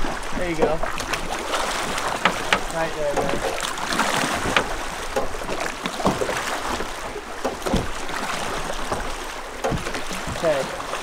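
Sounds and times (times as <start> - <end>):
oar strokes splashing and knocking: 0.0 - 11.0
rush of moving water: 0.0 - 11.0.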